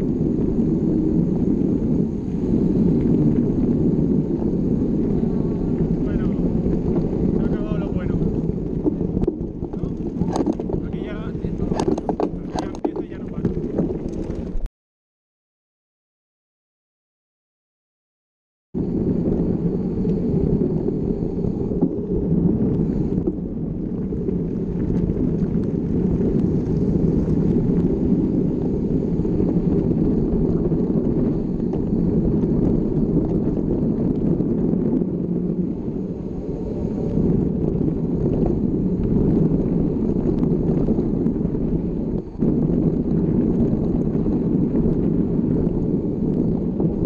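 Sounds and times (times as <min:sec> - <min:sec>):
bike rattling over trail: 0:00.0 - 0:14.7, 0:18.8 - 0:47.0
wind buffeting microphone: 0:00.0 - 0:14.7, 0:18.8 - 0:47.0.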